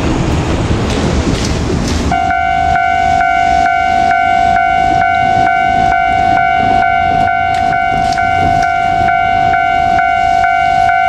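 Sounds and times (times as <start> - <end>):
diesel railcar rumbling: 0.0 - 11.0
level-crossing bell ringing: 2.1 - 11.0.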